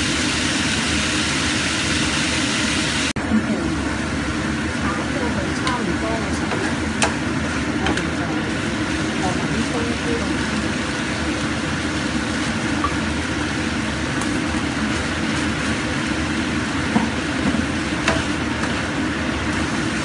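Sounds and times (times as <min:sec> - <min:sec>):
food sizzling in a wok: 0:00.0 - 0:20.0.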